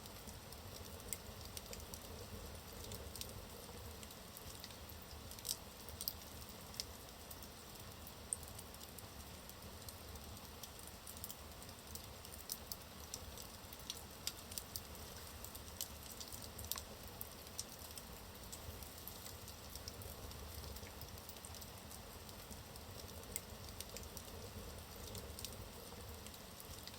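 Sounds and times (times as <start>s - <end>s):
logs crackling and popping: 0.2s - 7.0s, 10.6s - 26.9s.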